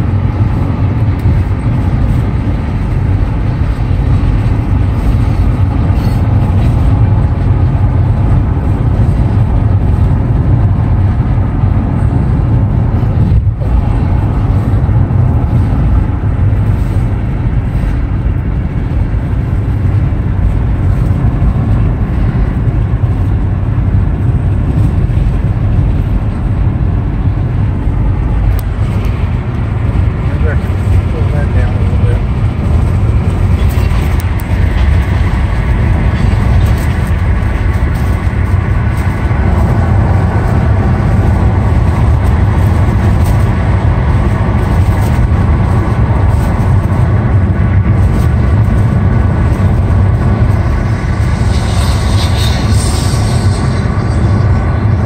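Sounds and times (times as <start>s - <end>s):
car driving from inside cabin: 0.0s - 55.0s.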